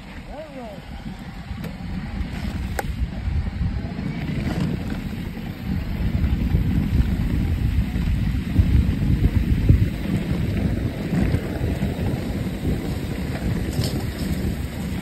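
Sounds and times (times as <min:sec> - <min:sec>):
bike rolling on dirt trail: 0:00.0 - 0:15.0
wind buffeting microphone: 0:00.0 - 0:15.0.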